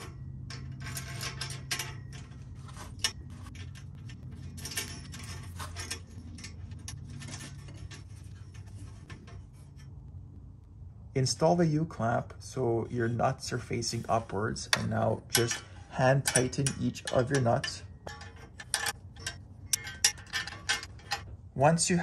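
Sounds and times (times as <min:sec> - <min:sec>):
metal clinks and scrapes: 0:00.0 - 0:10.5, 0:13.1 - 0:22.0.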